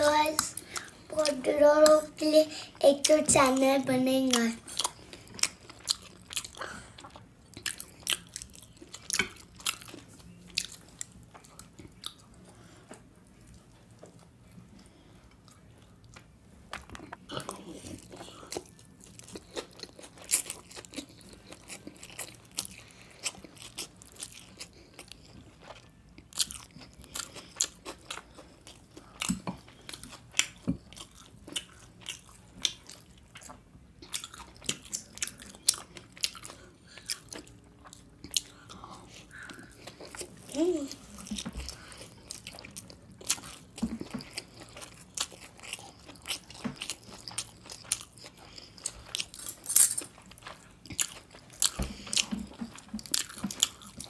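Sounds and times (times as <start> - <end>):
crackly chewing: 0.0 - 54.0.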